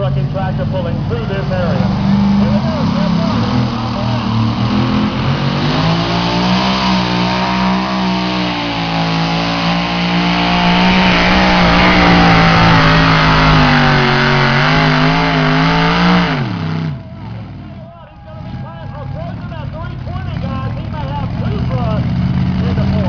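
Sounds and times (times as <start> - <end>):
truck engine at high revs: 0.0 - 17.8, 19.2 - 23.0.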